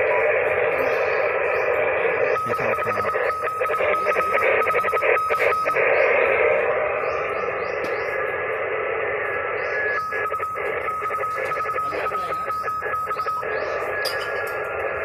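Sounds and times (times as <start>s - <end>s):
morse code beeps: 0.0s - 8.4s, 9.3s - 15.0s
radio static hiss: 0.0s - 15.0s.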